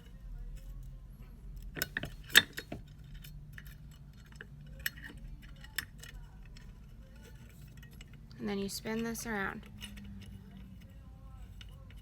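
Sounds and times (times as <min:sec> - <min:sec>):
metal parts clicking: 0:01.6 - 0:12.0.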